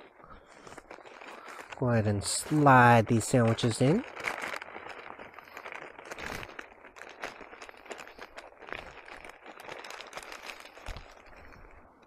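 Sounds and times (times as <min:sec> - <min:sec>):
paper bag rustling and crinkling: 0:00.0 - 0:12.0.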